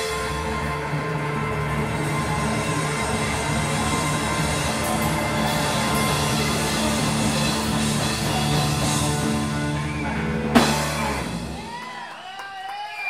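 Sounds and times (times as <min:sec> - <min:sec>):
drum roll with cymbals: 0:00.0 - 0:11.8
rock band holding closing chord: 0:00.0 - 0:11.8.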